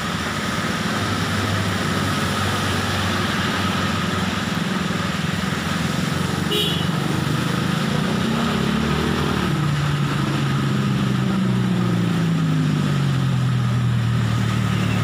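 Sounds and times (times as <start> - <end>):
heavy rain hissing: 0.0 - 12.6.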